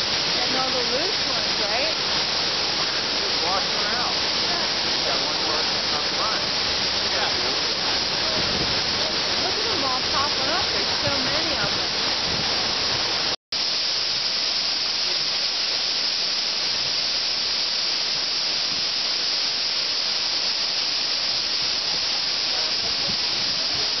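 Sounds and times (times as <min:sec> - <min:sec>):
churning water: 0:00.0 - 0:24.0
water spray hissing: 0:00.0 - 0:24.0.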